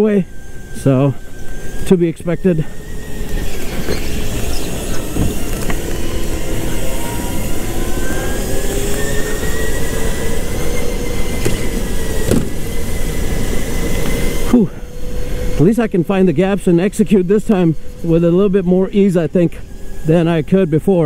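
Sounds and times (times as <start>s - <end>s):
go-kart motor running hard: 0.0s - 21.0s.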